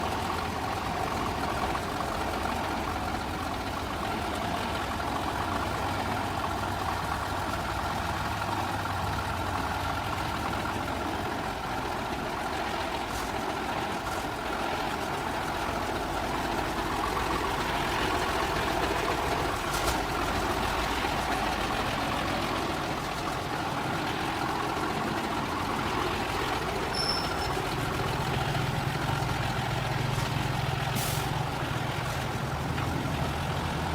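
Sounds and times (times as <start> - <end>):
truck engine drone: 0.0 - 33.9.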